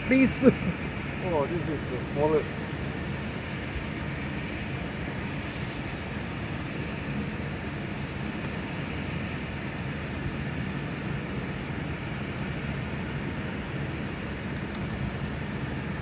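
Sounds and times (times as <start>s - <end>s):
low motor hum with hiss: 0.0s - 16.0s.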